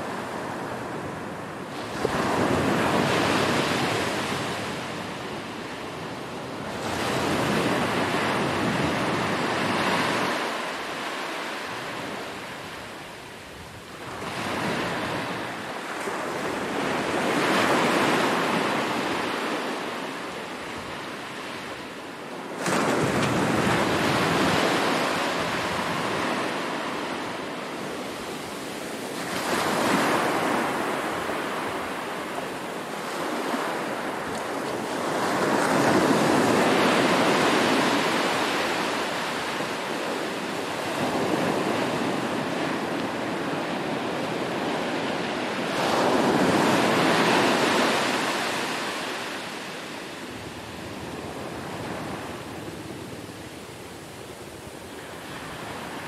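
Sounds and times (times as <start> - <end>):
small waves breaking on sand: 0.0 - 56.0.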